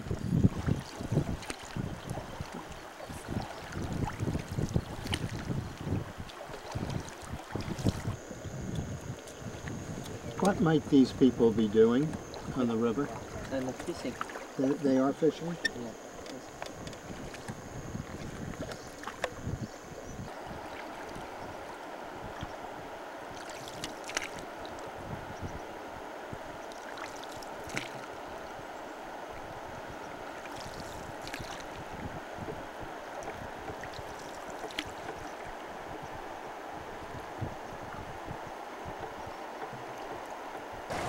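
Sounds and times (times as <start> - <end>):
river water rushing past boat: 0.0 - 41.0.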